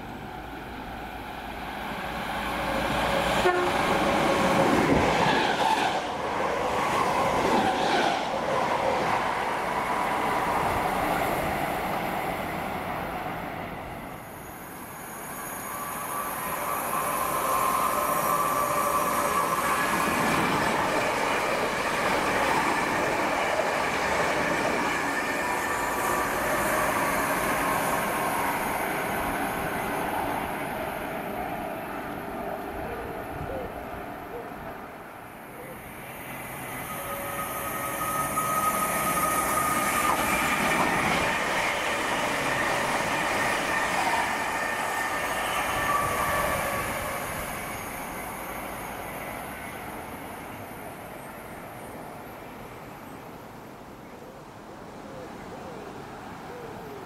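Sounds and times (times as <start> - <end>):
steady train tone: 0.0 - 53.3
electric trains passing: 0.0 - 53.9.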